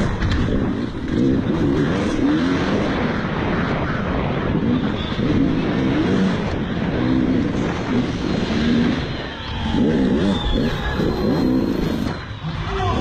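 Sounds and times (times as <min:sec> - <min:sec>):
motocross bike engine revving: 0:00.0 - 0:12.6.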